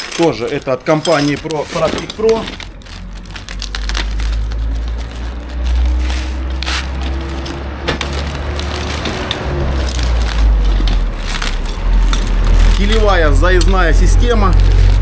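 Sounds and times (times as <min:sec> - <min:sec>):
cardboard packaging tearing: 0:00.0 - 0:15.0.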